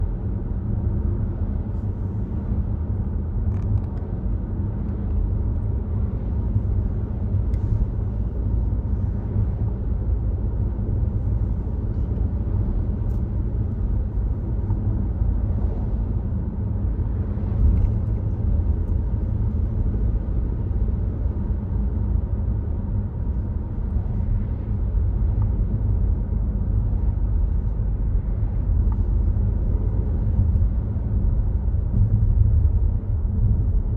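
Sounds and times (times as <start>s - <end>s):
car driving rumble: 0.0s - 33.9s.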